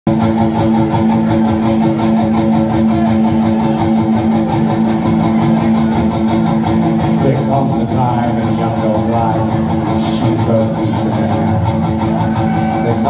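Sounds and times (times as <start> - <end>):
drums: 0.1 - 13.0
electric guitars droning chord: 0.1 - 13.0.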